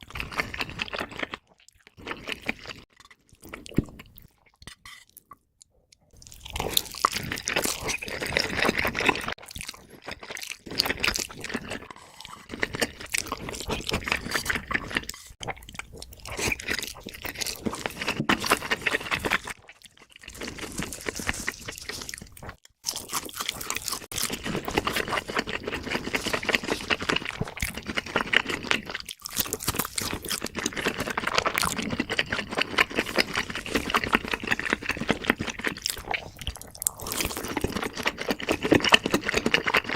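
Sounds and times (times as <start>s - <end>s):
crunchy chewing: 6.0s - 39.9s.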